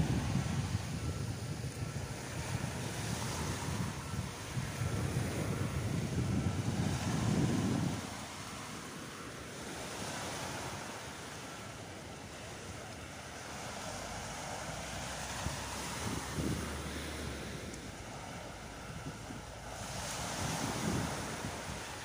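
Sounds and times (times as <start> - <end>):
waves washing up a beach: 0.0 - 22.0
wind buffeting microphone: 0.0 - 22.0.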